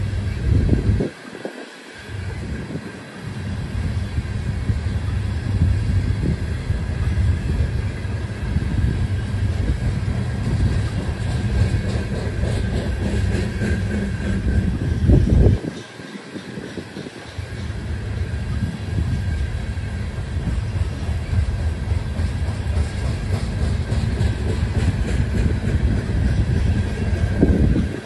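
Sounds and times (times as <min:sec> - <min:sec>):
steel wheels rumbling on rail: 0:00.0 - 0:28.0.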